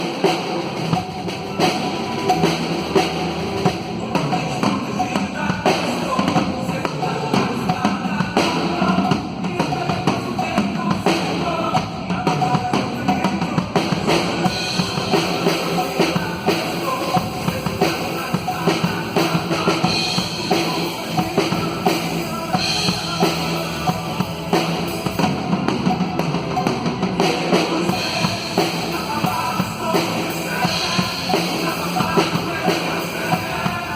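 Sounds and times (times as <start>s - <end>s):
drum kit playing: 0.0s - 33.9s
recorded rock band track: 0.0s - 33.9s.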